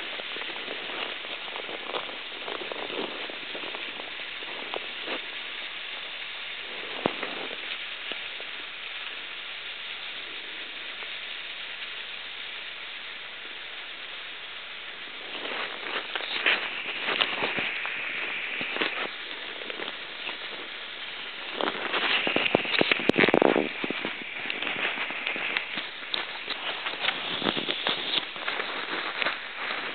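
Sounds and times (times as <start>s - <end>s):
running water hissing: 0.0s - 29.9s.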